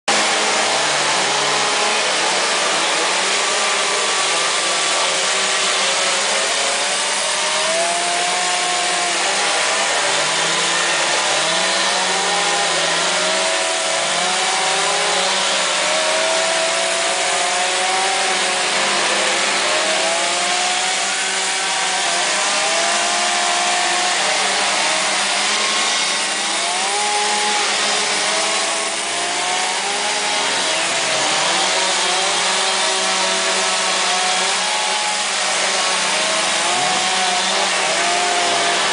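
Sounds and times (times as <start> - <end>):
chainsaws revving cutting wood: 0.1 - 38.9.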